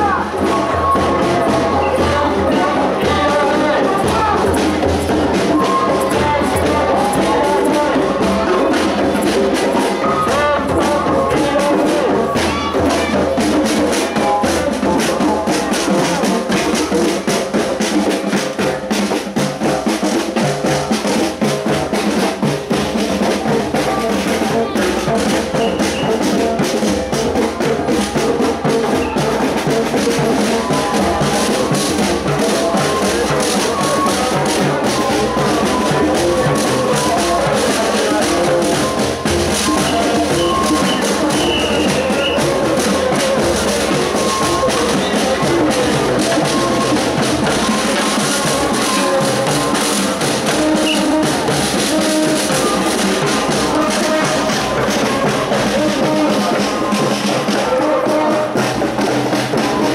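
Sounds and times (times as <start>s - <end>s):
marching drums beating: 0.0s - 59.9s
music: 0.0s - 59.9s
voices: 0.0s - 59.9s.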